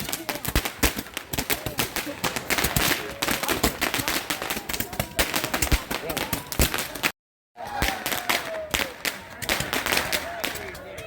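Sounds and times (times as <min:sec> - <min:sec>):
firecrackers crackling: 0:00.0 - 0:11.0.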